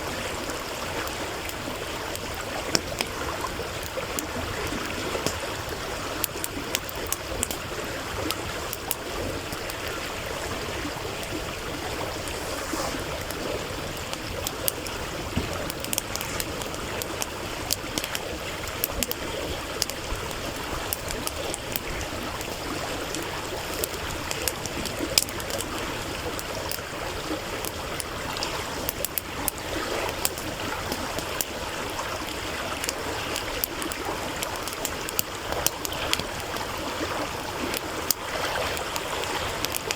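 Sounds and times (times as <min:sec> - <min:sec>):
campfire crackling: 0:00.0 - 0:39.9
stream water running: 0:00.0 - 0:39.9.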